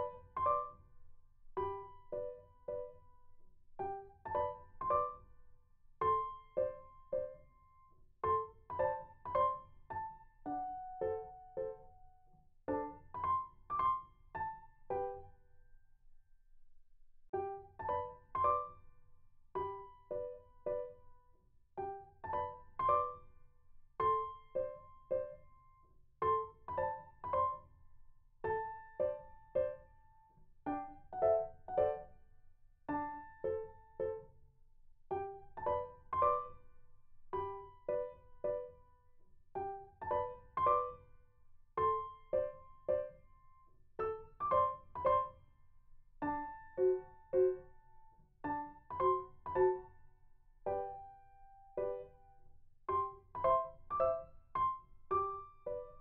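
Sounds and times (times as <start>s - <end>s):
slow gentle piano music: 0.0s - 15.8s, 17.3s - 56.0s.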